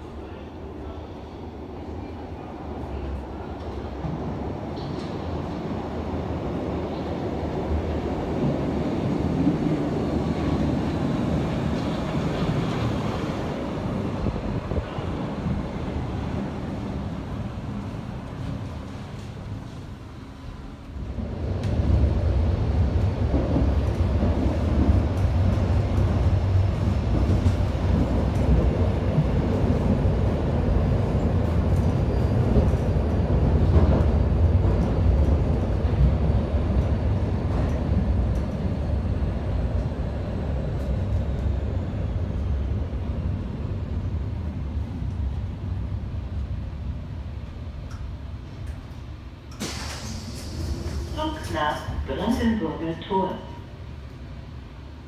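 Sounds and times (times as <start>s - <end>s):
subway train rumbling in tunnel: 0.0s - 55.0s.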